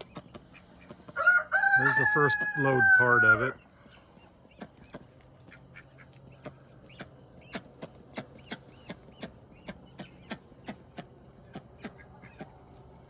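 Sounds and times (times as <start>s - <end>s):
ducks and chickens calling: 0.0s - 13.0s
faint steady hum: 0.0s - 13.0s.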